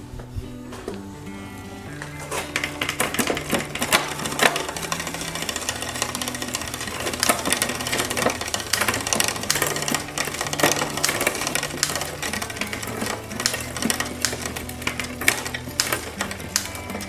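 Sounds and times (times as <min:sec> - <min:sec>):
bicycle chain clattering: 0:02.0 - 0:17.0.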